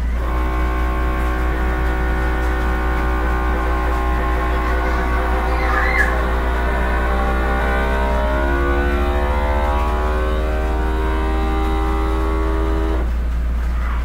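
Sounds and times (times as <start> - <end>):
vacuum sealer pump whine: 0.0 - 13.3
constant low hum: 0.0 - 14.0.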